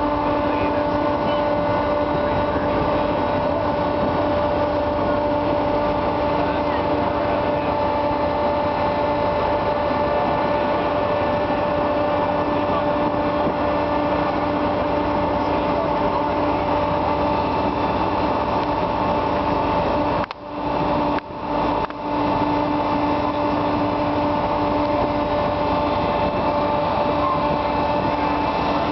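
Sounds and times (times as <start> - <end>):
noisy rush: 0.0 - 28.9
ship machinery drone: 0.0 - 28.9.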